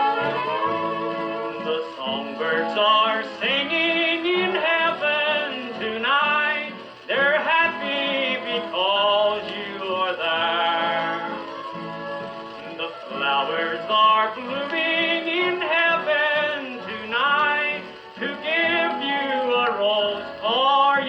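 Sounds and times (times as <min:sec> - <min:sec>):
man singing: 0:00.0 - 0:21.0
plucked guitar: 0:00.0 - 0:21.0.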